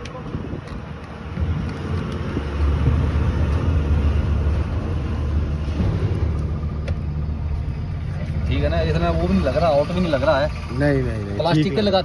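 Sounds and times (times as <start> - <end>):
vehicle engine running: 0.3 - 12.0.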